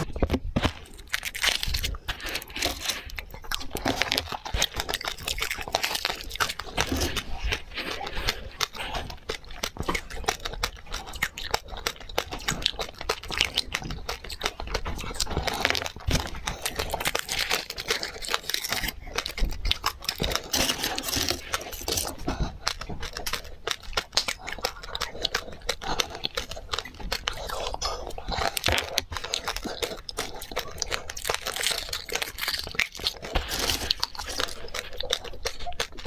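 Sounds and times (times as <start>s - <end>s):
foil wrappers crinkling and tearing: 0.0s - 10.4s, 11.5s - 22.2s, 26.8s - 36.0s
crunching hard candy: 0.0s - 36.0s.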